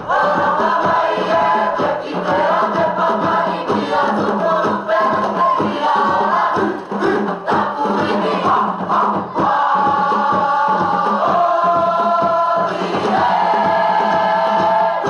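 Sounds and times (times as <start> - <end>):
group singing in harmony: 0.0 - 15.0
steady beat: 0.0 - 15.0.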